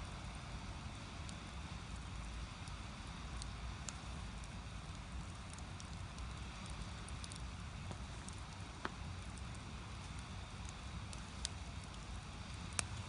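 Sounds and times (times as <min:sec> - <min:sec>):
firewood burning with crackles: 0:00.0 - 0:13.0.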